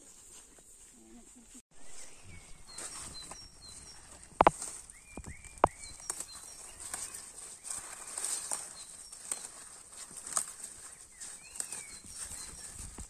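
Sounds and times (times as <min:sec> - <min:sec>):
bird chirps: 0:01.8 - 0:13.0.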